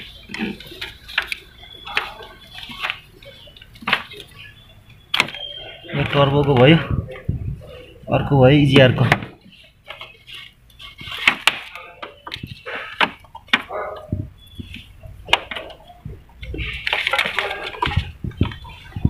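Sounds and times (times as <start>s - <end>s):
handling rubber hoses and fittings: 0.0s - 7.9s, 8.6s - 19.0s.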